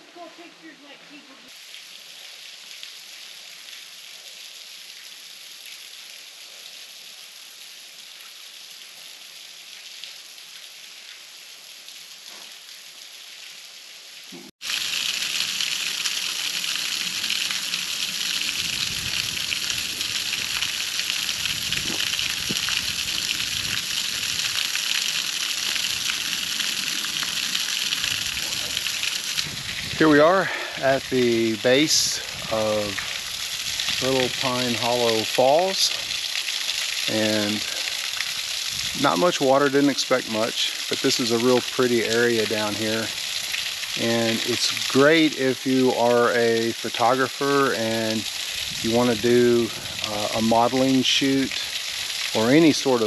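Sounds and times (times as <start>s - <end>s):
small waterfall splashing: 0.0s - 53.0s.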